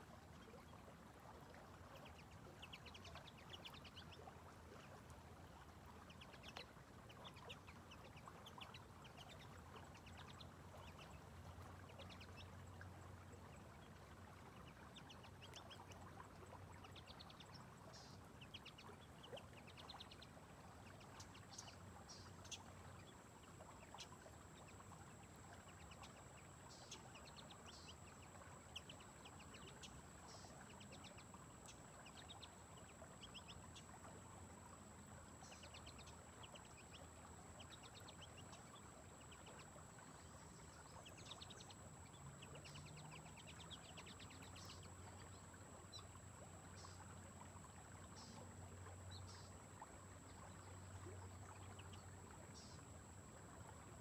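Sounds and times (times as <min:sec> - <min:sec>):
background noise wash: 0:00.0 - 0:54.0
small birds chirping: 0:01.5 - 0:47.2.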